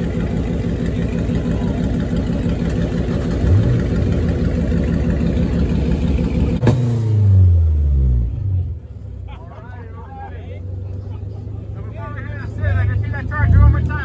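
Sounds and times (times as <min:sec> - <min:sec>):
car engine idling loudly: 0:00.0 - 0:14.0.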